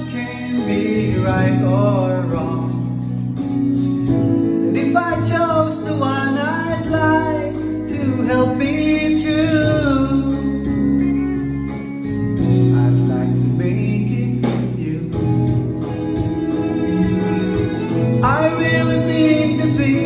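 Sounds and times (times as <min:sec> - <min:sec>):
person singing slow melody: 0:00.0 - 0:20.0
strummed acoustic guitar: 0:00.0 - 0:20.0.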